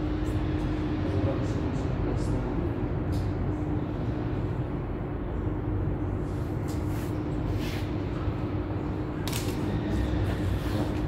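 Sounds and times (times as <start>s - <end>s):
low machinery drone: 0.0s - 11.0s.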